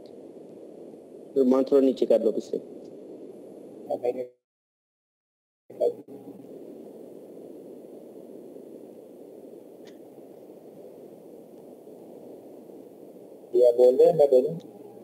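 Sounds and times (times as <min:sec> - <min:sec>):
low microphone hiss: 0:00.0 - 0:04.4, 0:05.7 - 0:15.0.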